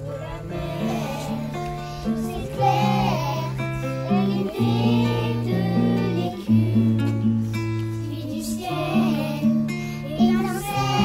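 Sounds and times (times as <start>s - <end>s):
children singing in unison: 0.0s - 11.0s
plucked string instrument: 0.0s - 11.0s.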